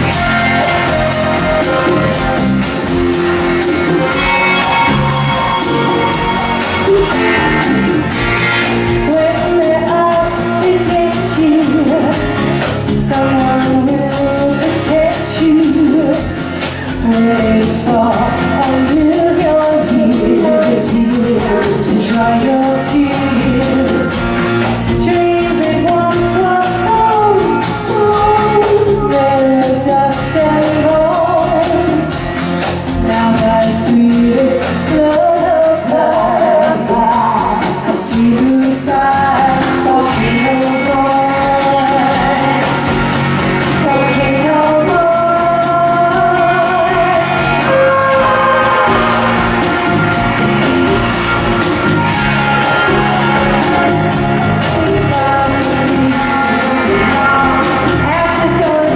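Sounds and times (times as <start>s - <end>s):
live band playing: 0.0s - 58.9s
woman singing: 0.0s - 58.9s.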